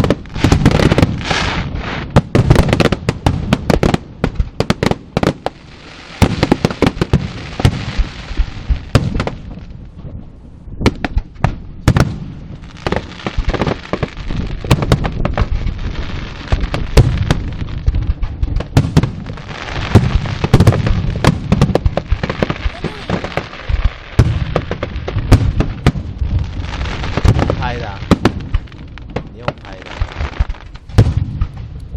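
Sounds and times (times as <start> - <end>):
fireworks bangs and crackling: 0.0 - 31.9.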